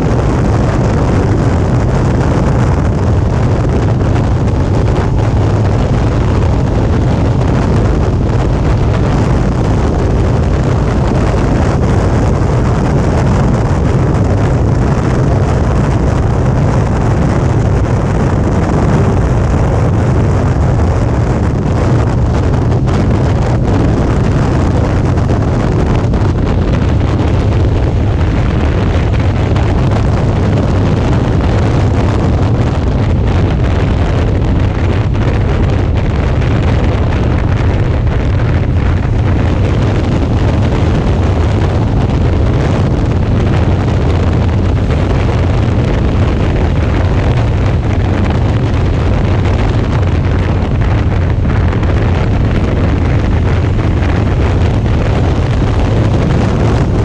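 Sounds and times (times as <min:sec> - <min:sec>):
motorcycle engine: 0:00.0 - 0:57.0
road noise: 0:00.0 - 0:57.0
wind buffeting microphone: 0:00.0 - 0:57.0.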